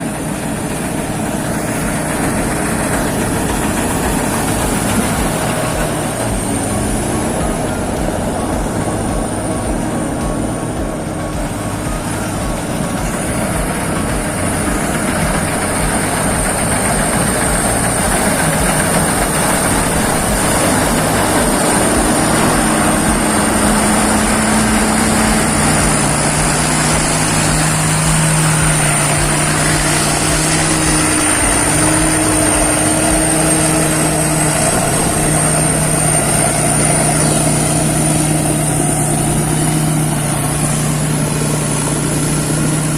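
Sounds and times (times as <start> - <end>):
combine harvester engine drone: 0.0 - 42.9
machinery clatter: 0.0 - 42.9
thin high whine: 0.0 - 42.9.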